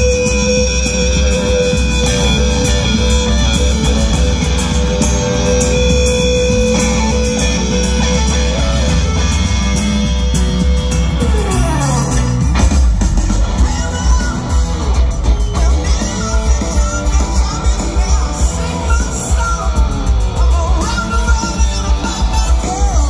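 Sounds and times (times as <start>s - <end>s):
electric guitar lead: 0.0s - 23.0s
live rock band: 0.0s - 23.0s.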